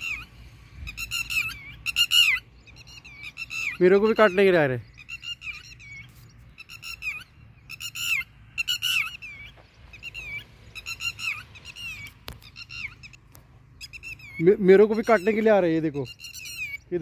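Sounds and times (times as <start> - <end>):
lapwing alarm calls: 0.0 - 17.0.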